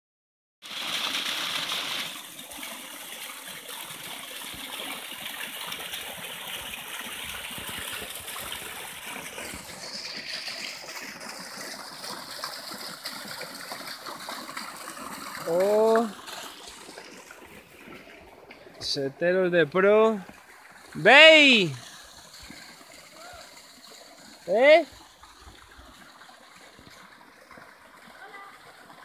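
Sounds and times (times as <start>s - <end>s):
waterfall splashing over rocks: 0.6s - 29.0s.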